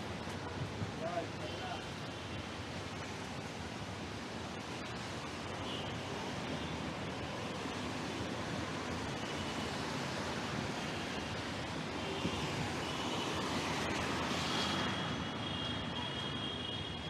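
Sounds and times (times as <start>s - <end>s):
rain: 0.0s - 17.0s
wind: 0.0s - 17.0s.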